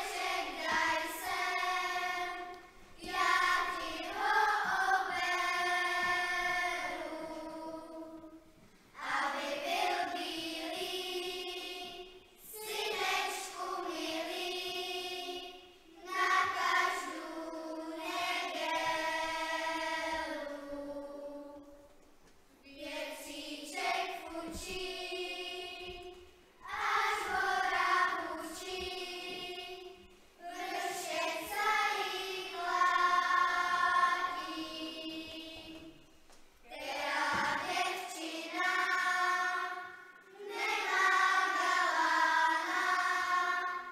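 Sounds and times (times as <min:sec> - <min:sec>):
children's choir singing: 0:00.0 - 0:22.0, 0:22.6 - 0:43.9.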